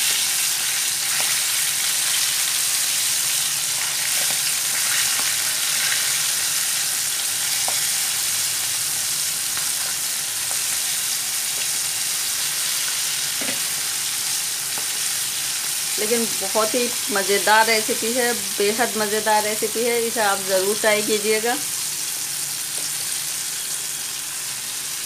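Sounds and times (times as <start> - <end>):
oil sizzling: 0.0 - 25.0.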